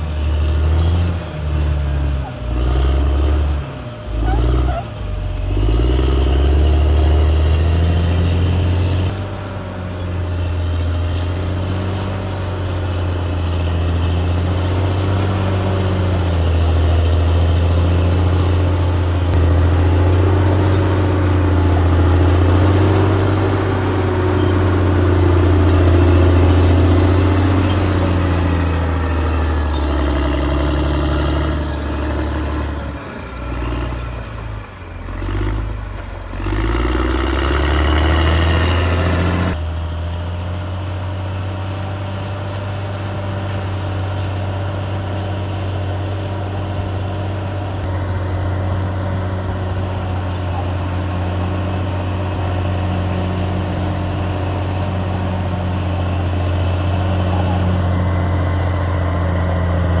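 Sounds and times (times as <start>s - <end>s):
bulldozer diesel engine working: 0.0s - 60.0s.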